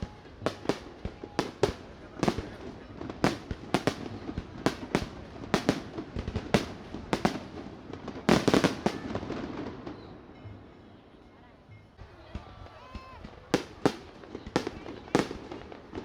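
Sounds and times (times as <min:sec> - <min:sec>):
fireworks bursting with sharp bangs: 0:00.0 - 0:10.7, 0:12.0 - 0:16.0.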